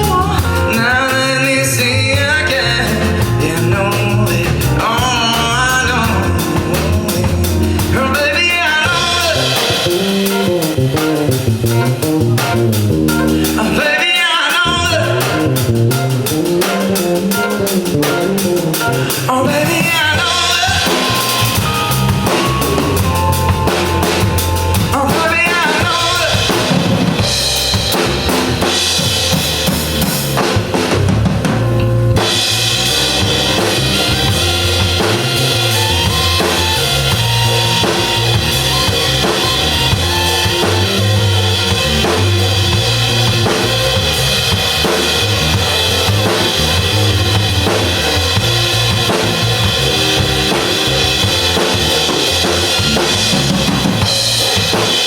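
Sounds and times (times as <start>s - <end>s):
drum kit beat: 0.0s - 55.0s
live pop band playing: 0.0s - 55.0s.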